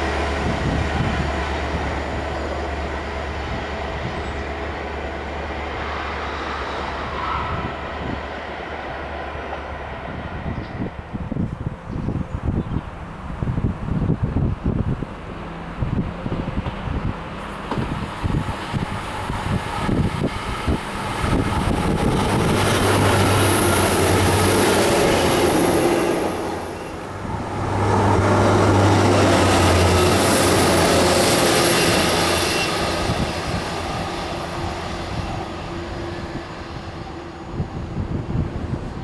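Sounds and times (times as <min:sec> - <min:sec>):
diesel train engine hum: 0:00.0 - 0:39.0.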